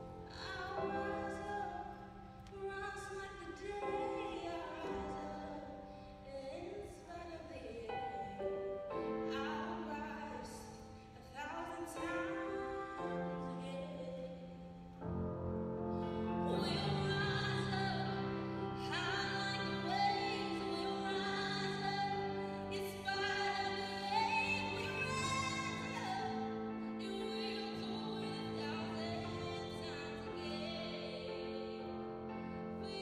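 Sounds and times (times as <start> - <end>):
woman singing classical style: 0.0 - 33.0.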